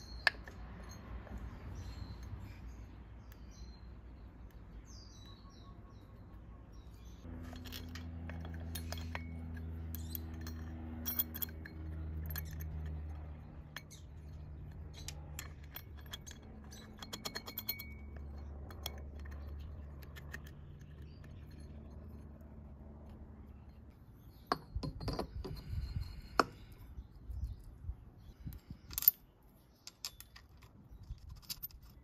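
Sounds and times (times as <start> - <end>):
metal washers clinking: 0.0 - 3.8, 6.8 - 32.0.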